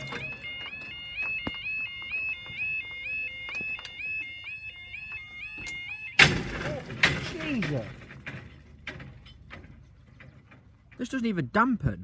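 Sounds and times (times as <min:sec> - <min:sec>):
level crossing warning alarm: 0:00.0 - 0:11.1.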